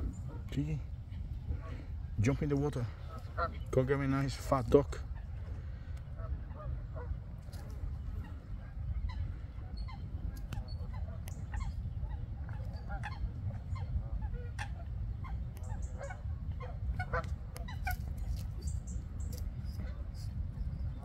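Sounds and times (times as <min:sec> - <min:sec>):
steady low rumble: 0:00.0 - 0:21.0
waterfowl calling: 0:00.0 - 0:21.0.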